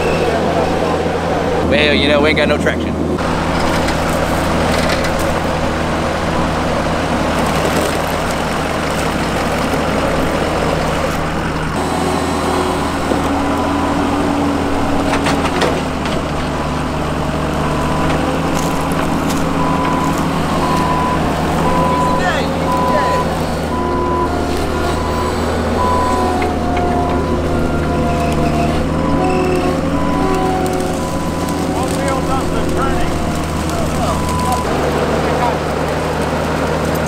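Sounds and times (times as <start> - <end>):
engines running: 0.0 - 37.0.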